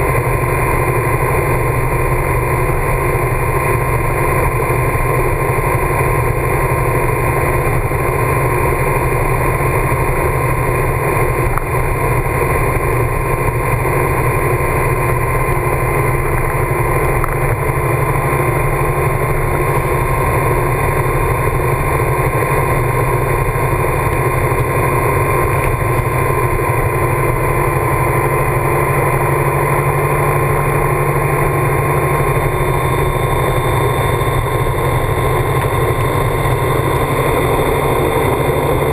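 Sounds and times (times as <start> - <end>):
motorcycle engine drone: 0.0 - 38.9
wind and road noise: 0.0 - 38.9.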